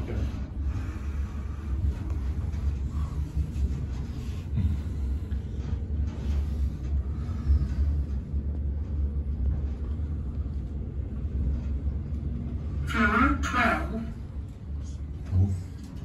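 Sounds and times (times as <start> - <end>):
elevator car rumbling: 0.0 - 16.0.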